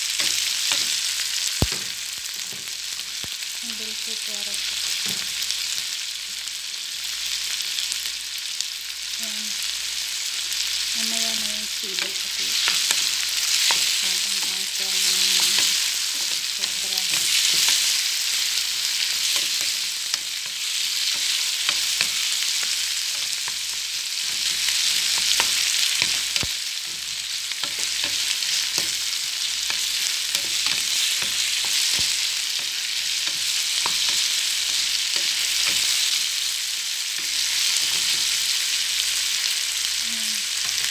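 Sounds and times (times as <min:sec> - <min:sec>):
vegetables sizzling in a frying pan: 0:00.0 - 0:40.9.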